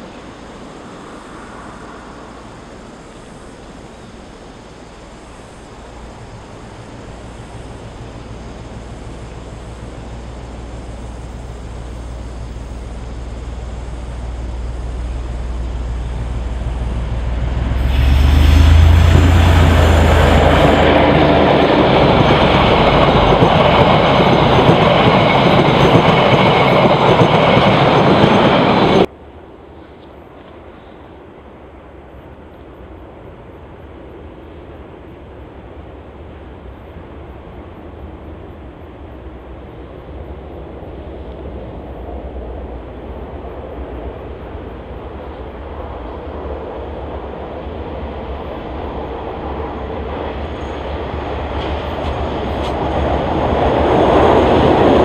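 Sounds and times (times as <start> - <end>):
diesel locomotive engine rumble: 0.0 - 55.0
train wheels on rails: 0.0 - 55.0.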